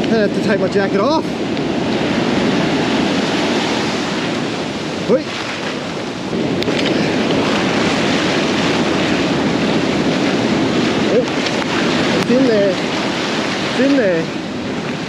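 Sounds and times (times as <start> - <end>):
surf breaking on sand beach: 0.0 - 15.0
wind buffeting microphone: 0.0 - 15.0.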